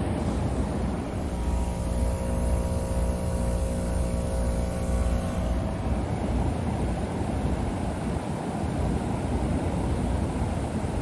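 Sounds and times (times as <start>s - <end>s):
heat pump fan and compressor: 0.0s - 11.0s.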